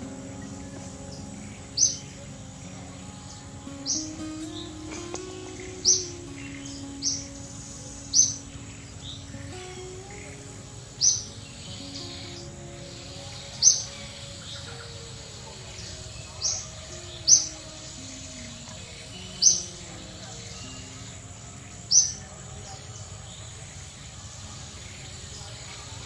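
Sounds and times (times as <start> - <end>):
bird chirping: 0.0 - 26.0
faint slow music tones: 0.0 - 26.0
outdoor background noise: 0.0 - 26.0.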